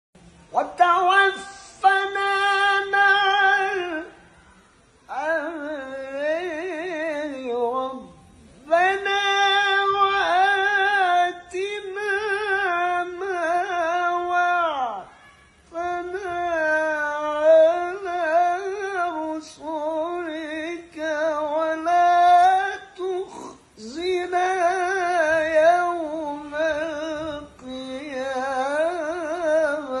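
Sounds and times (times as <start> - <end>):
man chanting recitation: 0.5 - 4.3, 5.1 - 30.0.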